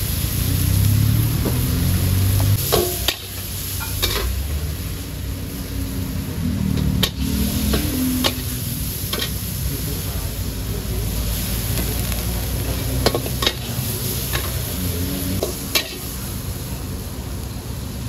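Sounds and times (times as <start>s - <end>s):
food sizzling in a wok: 0.0s - 18.0s.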